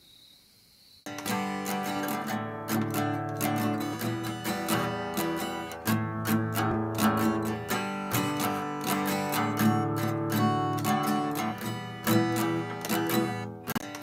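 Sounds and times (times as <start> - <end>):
acoustic guitar strumming: 1.1 - 14.0.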